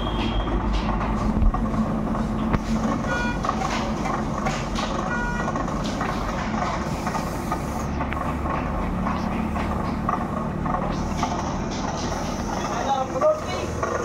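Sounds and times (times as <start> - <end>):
potter's wheel rumbling: 0.0 - 14.0.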